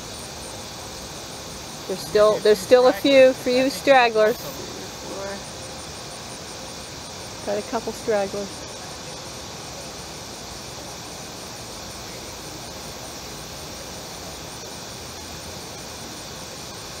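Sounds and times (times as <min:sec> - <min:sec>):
chorus of evening insects: 0:00.0 - 0:17.0
low background noise: 0:00.0 - 0:17.0.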